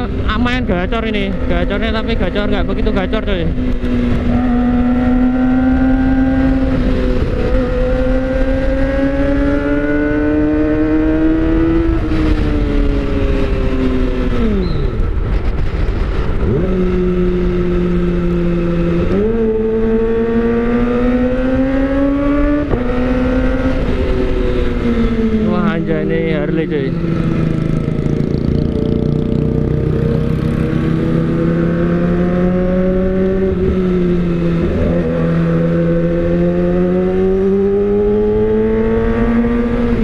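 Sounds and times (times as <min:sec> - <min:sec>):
motorcycle engine revving through gears: 0:00.0 - 0:40.0.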